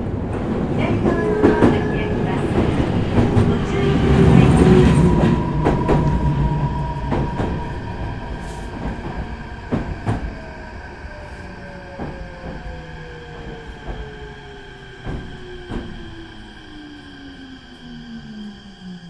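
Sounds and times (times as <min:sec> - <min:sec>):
train running rumble: 0:00.0 - 0:16.4.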